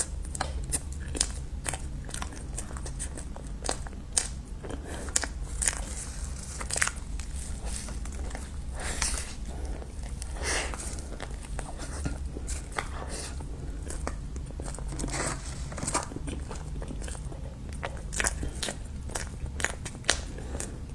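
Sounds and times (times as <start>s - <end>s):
crunchy chewing: 0.0s - 20.9s
low steady hum: 0.0s - 20.9s.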